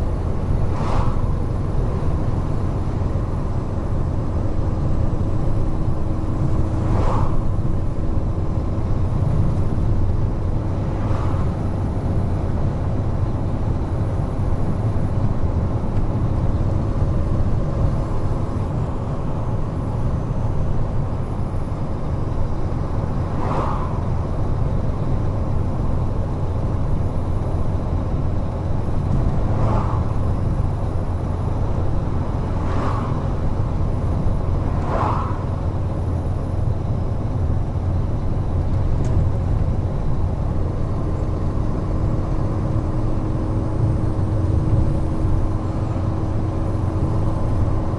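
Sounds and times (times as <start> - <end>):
truck engine and road rumble: 0.0 - 47.9.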